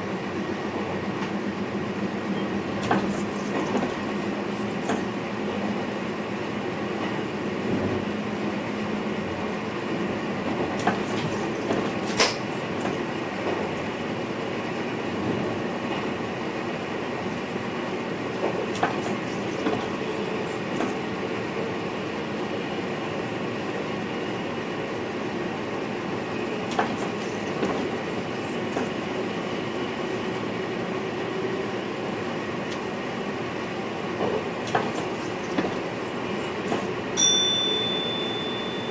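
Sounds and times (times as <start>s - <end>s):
train rumble and hiss: 0.0s - 38.9s.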